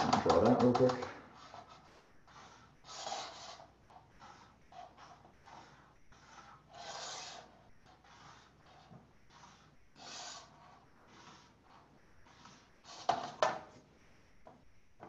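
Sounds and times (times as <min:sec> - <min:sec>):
pencil scratching on paper: 0:00.0 - 0:13.9.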